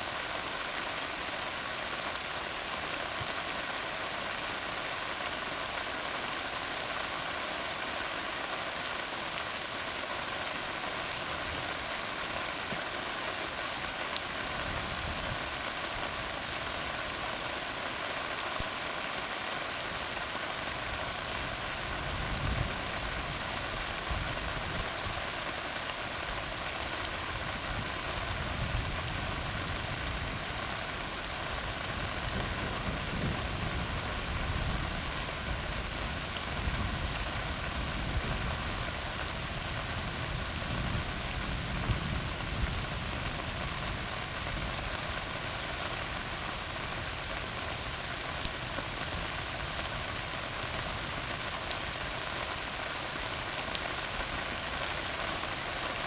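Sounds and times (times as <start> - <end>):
rain on a road: 0.0 - 56.0.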